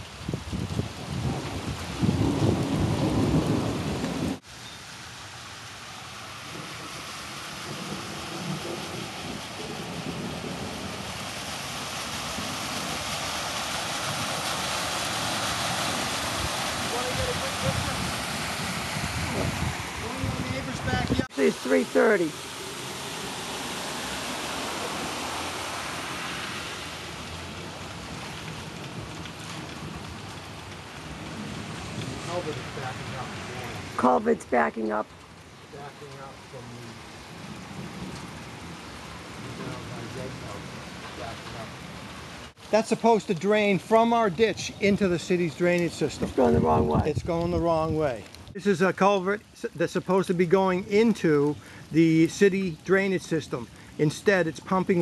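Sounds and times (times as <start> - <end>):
heavy rain on a street: 0.0 - 55.0
moving floodwater: 0.0 - 55.0
tyres ploughing through floodwater: 0.0 - 55.0.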